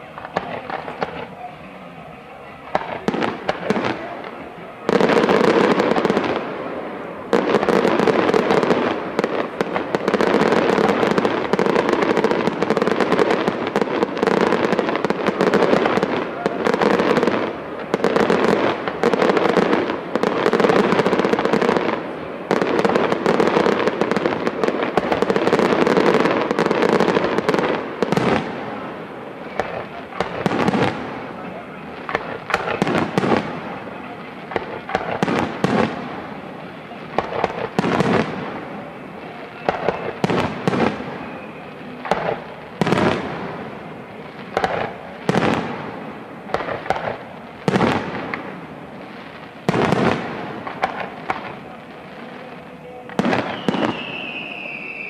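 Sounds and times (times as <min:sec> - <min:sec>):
crackling firework stars: 0:00.0 - 0:55.0.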